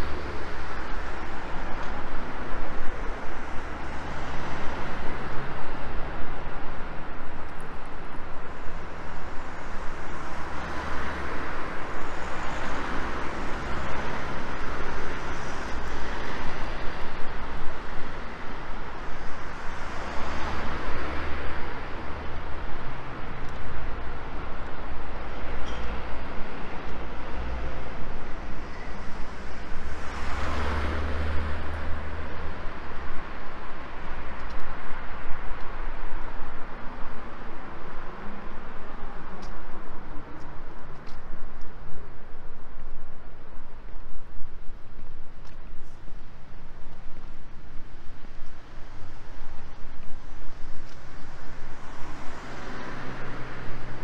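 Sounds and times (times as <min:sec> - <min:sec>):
traffic rumble: 0:00.0 - 0:54.0
vehicles passing: 0:00.0 - 0:54.0.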